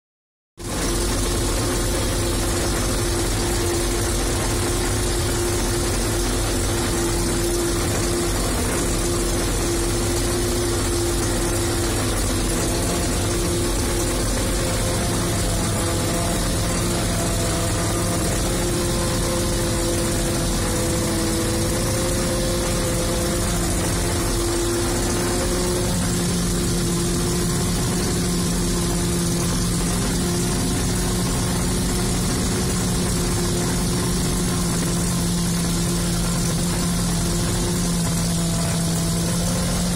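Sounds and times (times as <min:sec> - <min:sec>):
harvester engine and machinery drone: 0:00.6 - 0:39.9
held drifting tones: 0:00.6 - 0:39.9.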